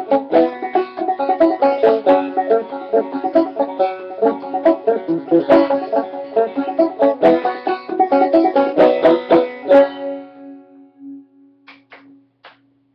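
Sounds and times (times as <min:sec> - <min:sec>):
banjo plucked notes: 0:00.0 - 0:12.2.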